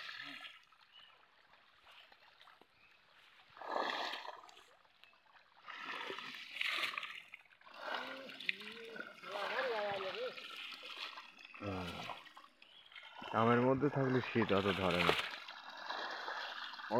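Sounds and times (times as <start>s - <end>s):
water splashing: 0.0s - 16.9s
water trickling: 0.0s - 16.9s.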